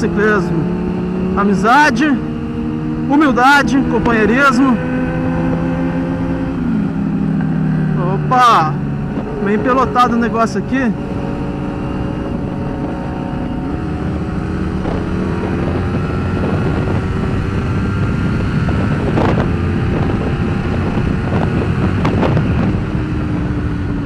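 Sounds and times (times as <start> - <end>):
motorcycle engine cruising: 0.0 - 24.0
wind rush: 0.3 - 24.0.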